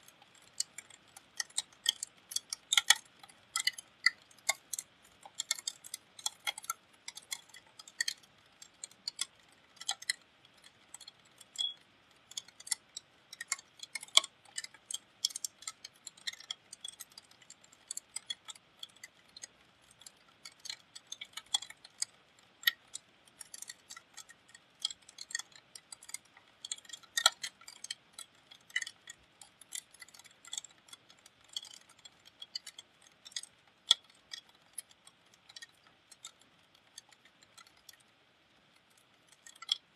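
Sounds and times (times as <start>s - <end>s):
faint hiss of rain: 0.0s - 39.9s
raindrops ticking on hard surface: 0.0s - 39.9s.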